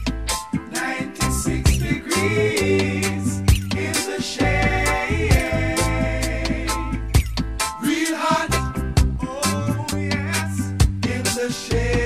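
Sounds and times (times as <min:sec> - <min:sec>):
bass line: 0:00.0 - 0:12.0
drum beat: 0:00.0 - 0:12.0.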